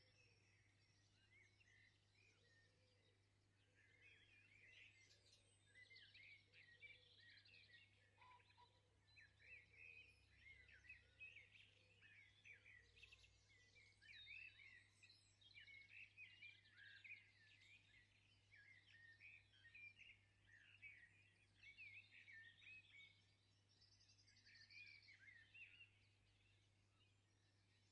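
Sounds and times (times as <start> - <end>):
birds chirping: 0.0 - 27.9.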